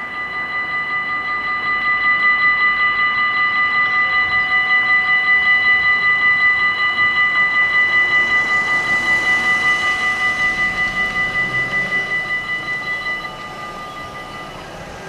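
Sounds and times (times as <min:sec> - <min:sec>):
level-crossing bells ringing: 0:00.0 - 0:15.0.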